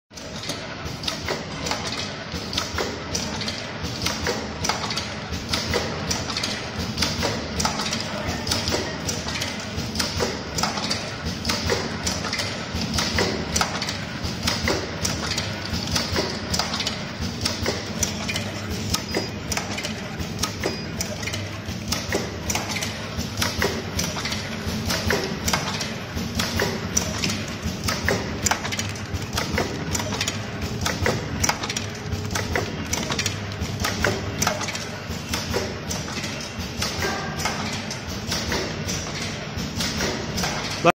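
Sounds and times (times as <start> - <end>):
machine clattering: 0.2 - 40.9.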